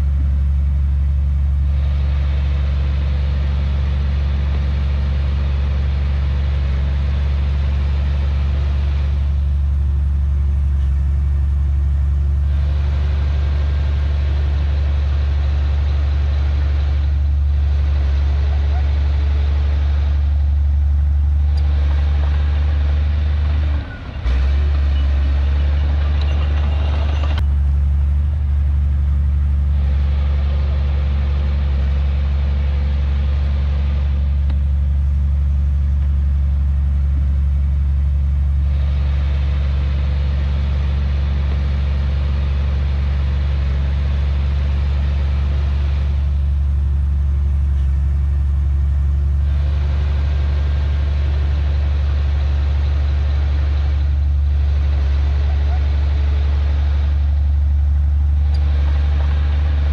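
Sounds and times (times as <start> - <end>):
heavy diesel machinery humming: 0.0 - 59.9.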